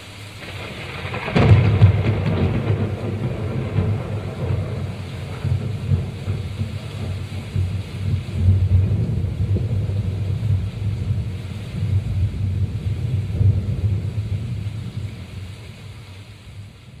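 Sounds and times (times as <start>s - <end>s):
distant thunder rumble: 0.3s - 17.0s.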